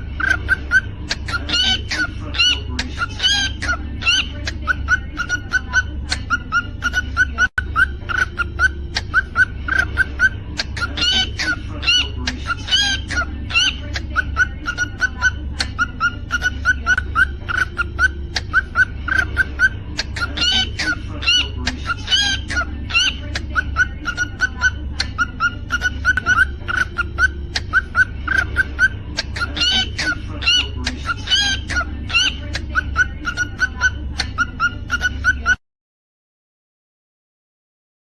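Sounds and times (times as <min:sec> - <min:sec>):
cockatiel chirping: 0:00.0 - 0:35.6
low steady hum: 0:00.0 - 0:35.6.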